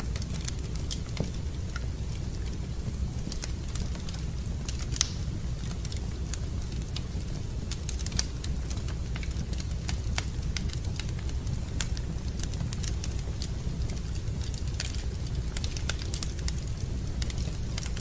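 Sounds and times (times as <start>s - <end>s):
fire popping and snapping: 0.0s - 18.0s
fireplace fire crackling: 0.0s - 18.0s.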